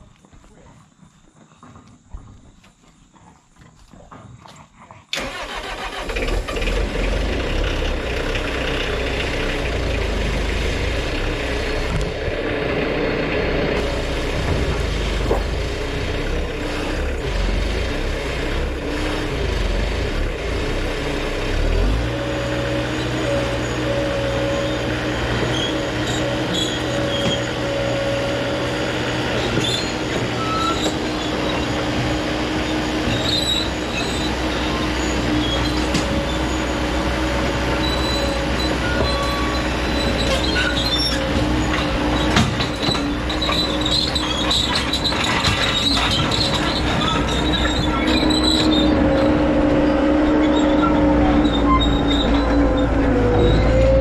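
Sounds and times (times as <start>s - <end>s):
diesel engine starting and running: 5.1s - 54.0s.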